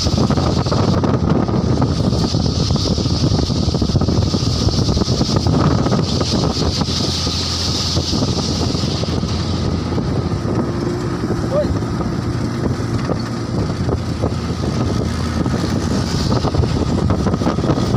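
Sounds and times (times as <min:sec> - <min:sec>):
vehicle engine rumbling: 0:00.0 - 0:17.9
wind buffeting microphone: 0:00.0 - 0:17.9.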